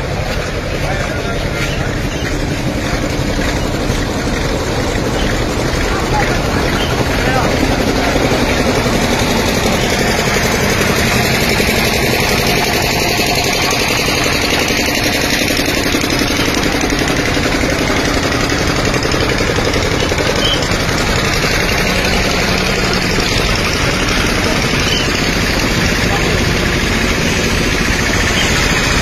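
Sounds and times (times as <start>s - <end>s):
vehicle engine idling loudly: 0.0s - 29.0s.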